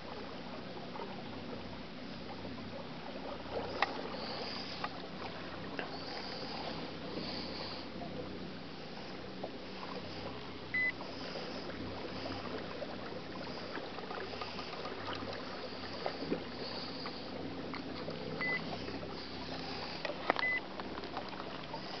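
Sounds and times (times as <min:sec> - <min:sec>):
water lapping at hull: 0:00.0 - 0:22.0.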